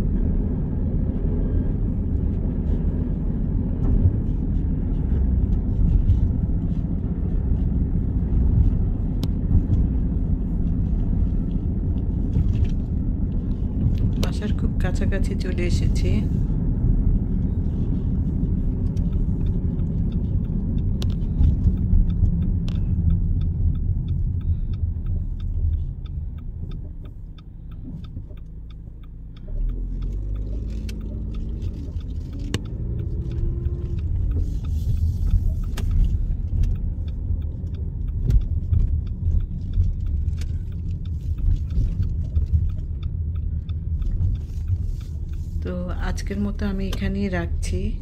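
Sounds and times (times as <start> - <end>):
wind rumble: 0.0 - 28.8, 29.4 - 48.0
light regular ticks: 0.1 - 48.0.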